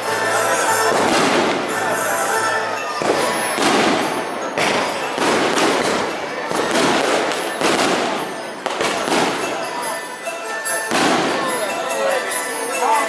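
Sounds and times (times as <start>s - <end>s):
fireworks bursting: 0.0s - 12.5s.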